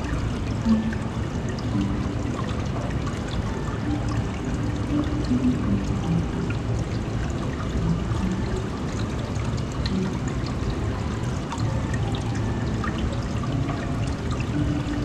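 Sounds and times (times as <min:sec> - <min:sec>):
water pouring into tank: 0:00.0 - 0:15.0.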